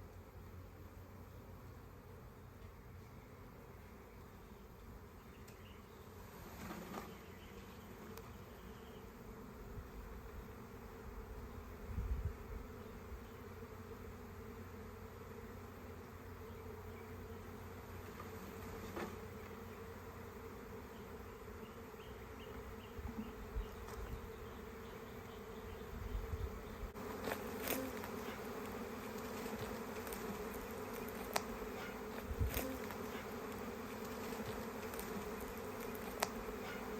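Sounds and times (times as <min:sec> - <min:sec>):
bees buzzing: 0:00.2 - 0:36.9.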